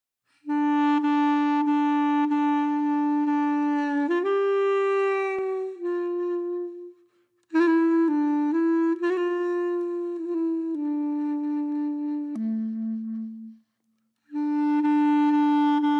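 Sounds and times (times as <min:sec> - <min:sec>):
woodwind playing long notes: 0:00.4 - 0:15.9.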